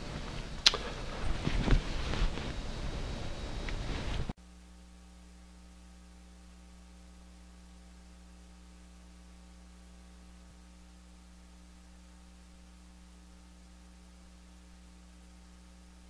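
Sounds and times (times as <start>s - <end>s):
faint electrical mains hum: 0.0s - 16.0s.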